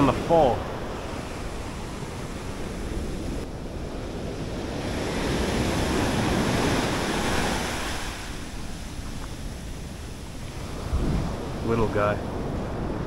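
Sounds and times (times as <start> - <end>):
ocean surf washing up beach: 0.0 - 13.0
wind buffeting microphone: 0.0 - 13.0.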